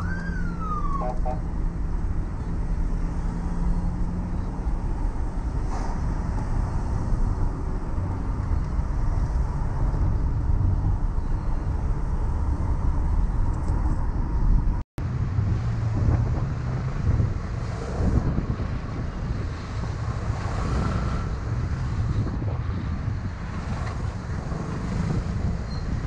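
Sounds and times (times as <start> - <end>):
vehicle road and wind rumble: 0.0 - 26.0.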